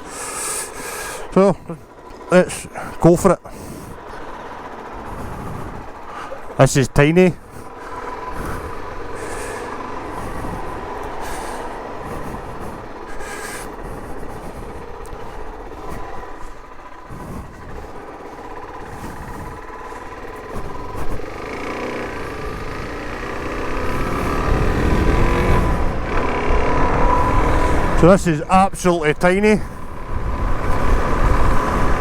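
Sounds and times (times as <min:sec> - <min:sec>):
motorcycle engine running: 0:00.0 - 0:32.0
road and wind noise: 0:00.0 - 0:32.0.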